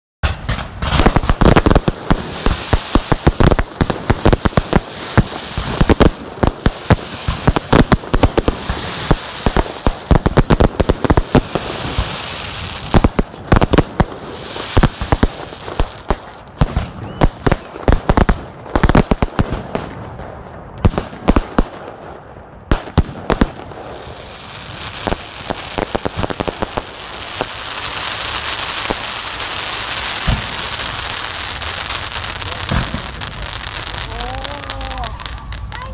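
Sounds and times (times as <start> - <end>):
fireworks bangs: 0.2 - 35.9
crackling hiss: 0.4 - 20.0, 22.7 - 35.9.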